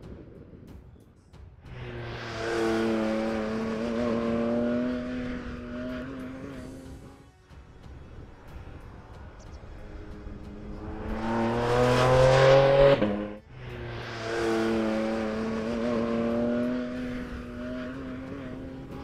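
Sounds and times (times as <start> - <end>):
car engine accelerating: 1.7 - 7.2, 8.2 - 19.0.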